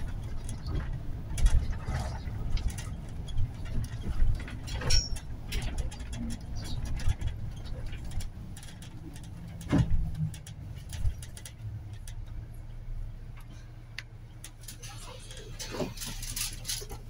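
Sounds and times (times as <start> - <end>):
clicks and rattles: 0.0 - 12.6, 13.3 - 17.0
bus engine drone: 0.0 - 17.0.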